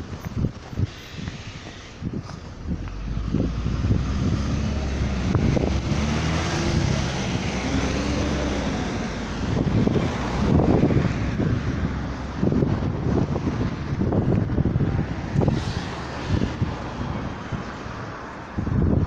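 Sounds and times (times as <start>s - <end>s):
heavy vehicle engine: 0.0s - 19.0s
road traffic passing: 0.0s - 19.0s.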